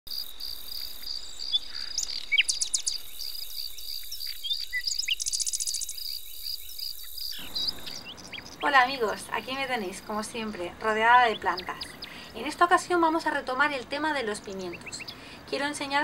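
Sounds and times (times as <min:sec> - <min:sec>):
crickets chirping: 0:00.1 - 0:13.3
birds twittering: 0:00.1 - 0:16.0.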